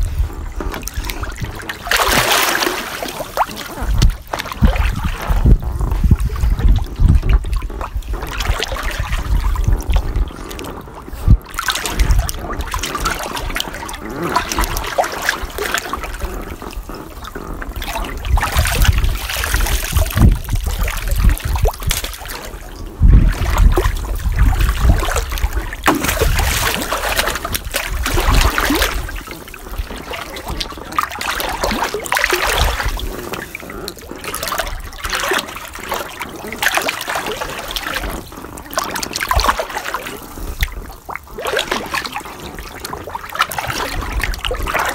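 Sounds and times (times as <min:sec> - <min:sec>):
loud slaps of water: 0:00.0 - 0:16.9, 0:17.7 - 0:44.9
pool water splashing: 0:00.0 - 0:44.9
water trickling: 0:00.0 - 0:44.9.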